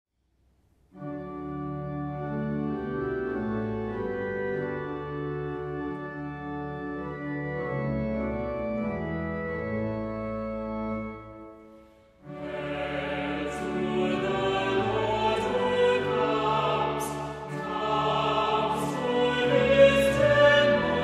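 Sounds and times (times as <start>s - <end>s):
organ playing sustained chords: 0.9s - 21.0s.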